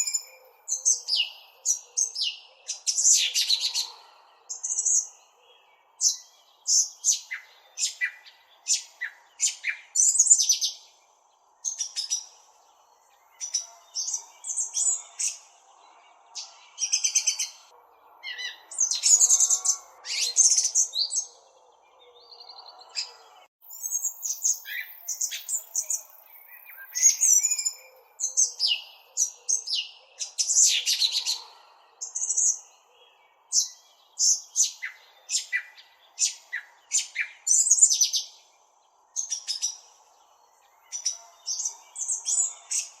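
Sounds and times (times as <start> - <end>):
small songbirds chirping: 0.0 - 43.0.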